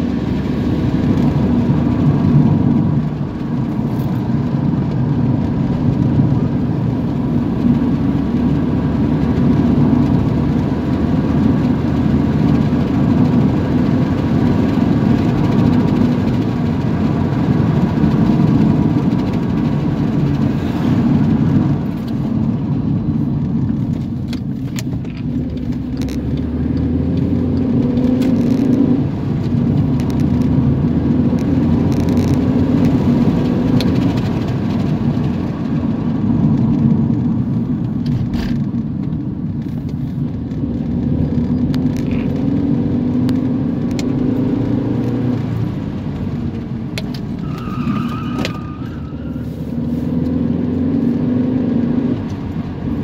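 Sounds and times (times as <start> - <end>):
car engine: 0.0 - 53.0
road rumble: 0.0 - 53.0.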